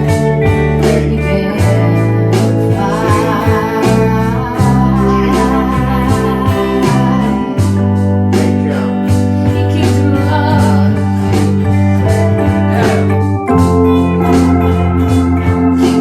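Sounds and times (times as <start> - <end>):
band playing song with guitars: 0.0 - 16.0.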